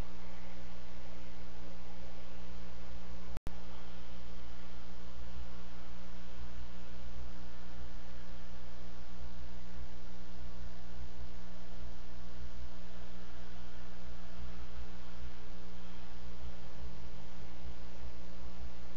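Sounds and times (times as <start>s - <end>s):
electrical mains hum: 0.0s - 18.9s
microphone hiss: 0.0s - 18.9s.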